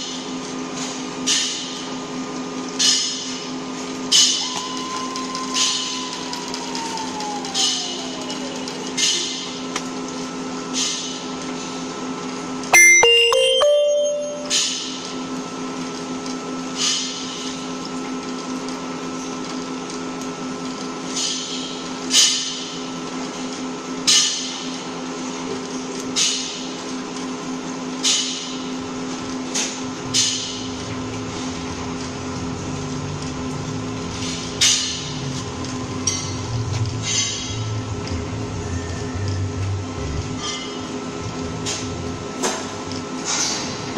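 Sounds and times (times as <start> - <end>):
welding machine electrical hum: 0.0 - 12.7, 15.0 - 28.0, 28.6 - 43.9.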